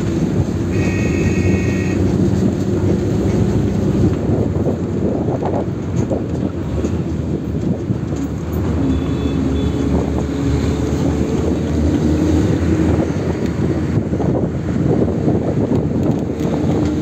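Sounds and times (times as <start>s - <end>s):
engine humming: 0.0s - 17.0s
vehicle road noise: 0.0s - 17.0s.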